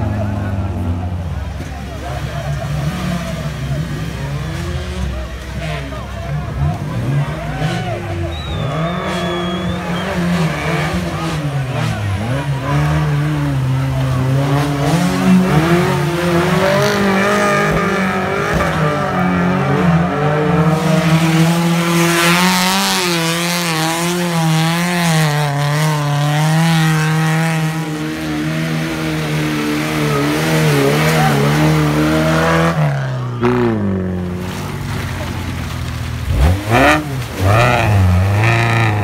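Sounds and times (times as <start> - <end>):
engine at high revs: 1.9 - 39.0.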